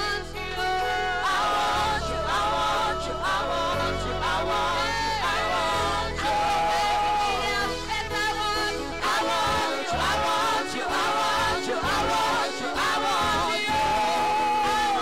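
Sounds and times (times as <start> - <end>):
backing singers: 0.0 - 15.0.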